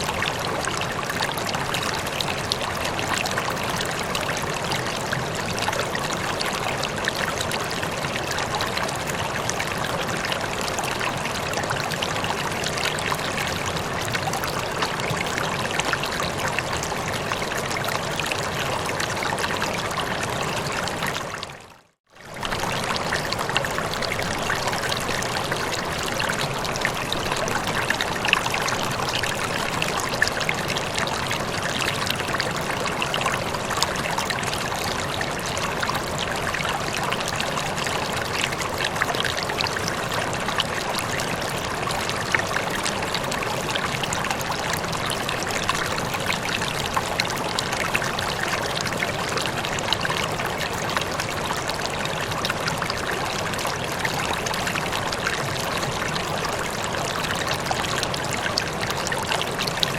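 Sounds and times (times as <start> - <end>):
stream water rushing: 0.0 - 21.6, 22.2 - 59.9.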